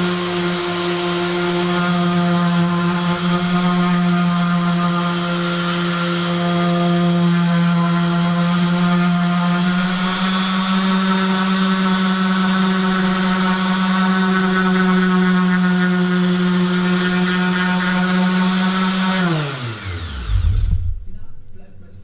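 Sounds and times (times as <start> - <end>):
orbital sander on wood: 0.0 - 20.9.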